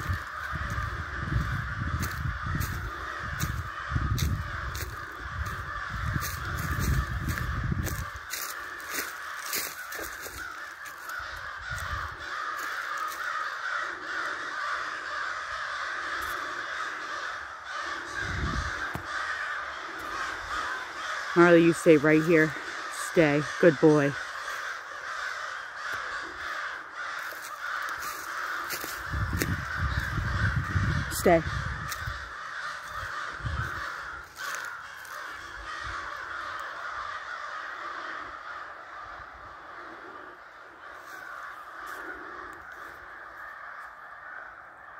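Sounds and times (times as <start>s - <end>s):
crows cawing: 0.0s - 44.9s.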